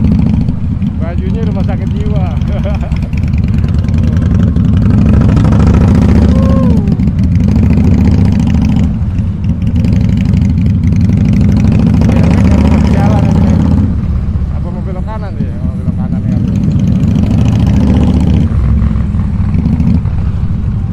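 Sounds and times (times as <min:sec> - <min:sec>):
motorcycle engine rumbling: 0:00.0 - 0:20.9.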